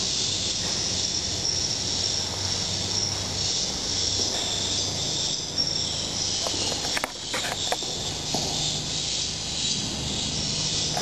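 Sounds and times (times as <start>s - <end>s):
high insect-like chirring: 0.0s - 11.0s.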